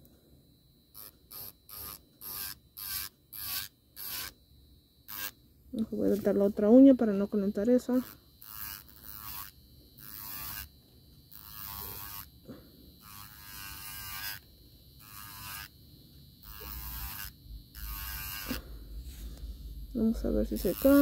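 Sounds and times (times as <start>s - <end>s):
electric nail file whirring: 0.9s - 21.0s.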